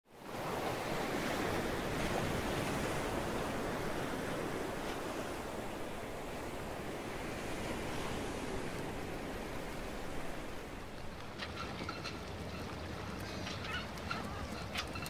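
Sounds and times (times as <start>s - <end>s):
waves washing onto shore: 0.1s - 15.0s.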